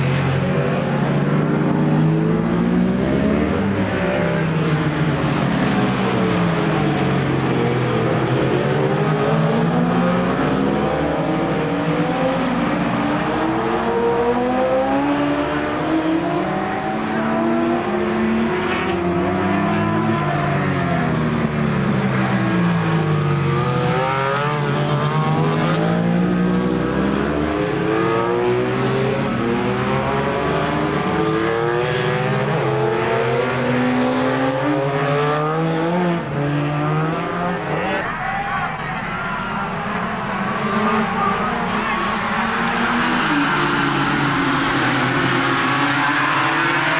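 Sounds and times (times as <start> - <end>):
racing motorcycle engines: 0.0 - 46.9.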